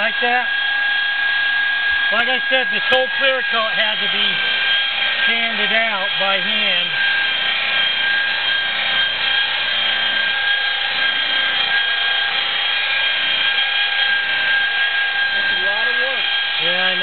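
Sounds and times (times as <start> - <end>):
polishing pad rushing on panel: 0.0 - 17.0
rotary polisher whining: 0.0 - 17.0.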